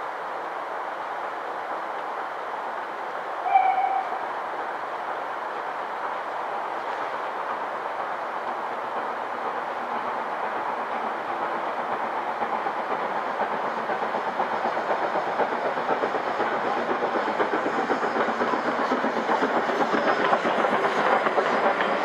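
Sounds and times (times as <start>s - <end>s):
steam locomotive passing: 0.0s - 22.0s
train wheels clicking over rail joints: 1.3s - 22.0s.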